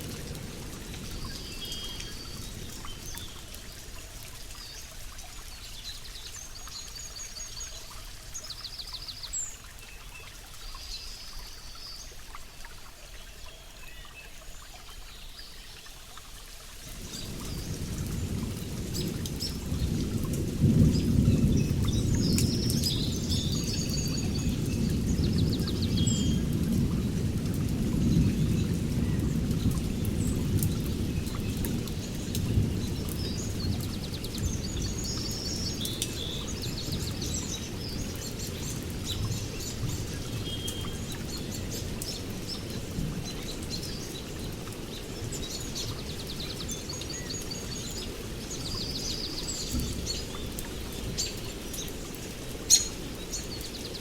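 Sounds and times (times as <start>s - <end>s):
songbirds chirping: 0.1s - 54.0s.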